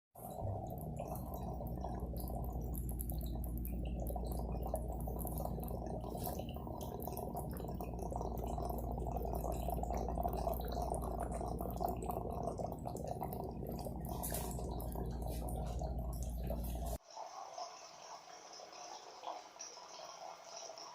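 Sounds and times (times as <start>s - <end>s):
muffled water rushing in wall: 0.2s - 20.9s.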